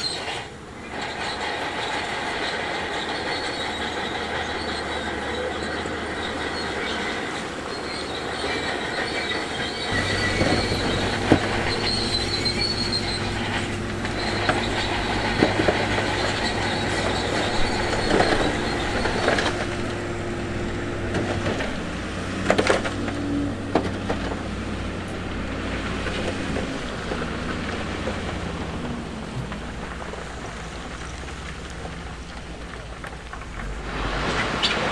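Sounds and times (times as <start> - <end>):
bulldozer diesel engine: 0.0 - 34.9
steel tracks clanking and squealing: 0.0 - 34.9.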